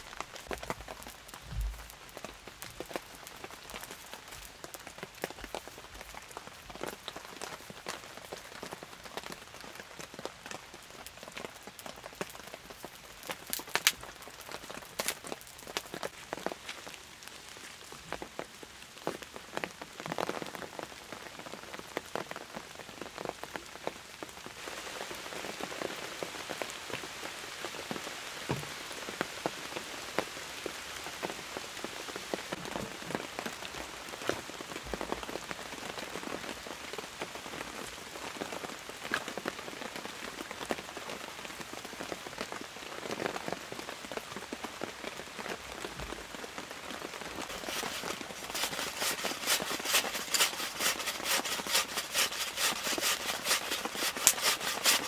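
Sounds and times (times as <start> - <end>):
rain drops striking surface: 0.0 - 55.0.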